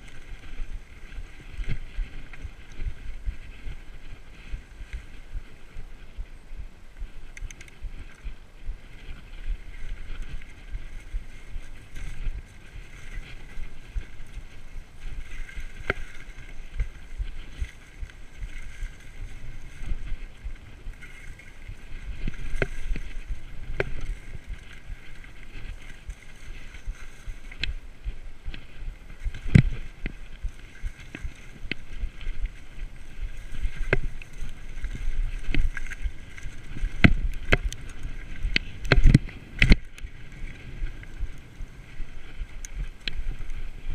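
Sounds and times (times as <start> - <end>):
bike knocking on bumps: 0.0 - 43.9
bike rattling: 0.0 - 43.9
wind and tyres rumbling on trail: 0.0 - 43.9.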